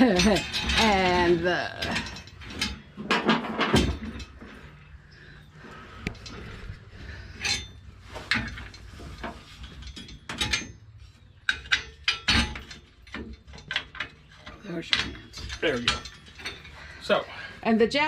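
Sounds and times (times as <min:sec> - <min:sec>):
steel parts clinking: 0:00.0 - 0:18.0.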